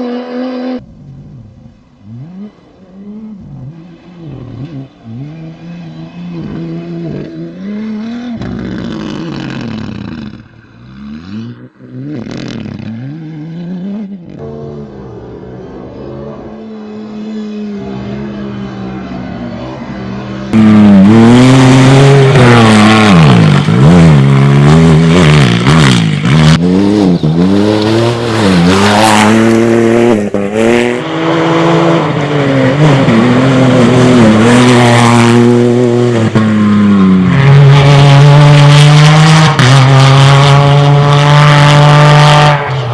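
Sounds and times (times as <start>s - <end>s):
racing vehicle engine revving: 2.0s - 42.9s.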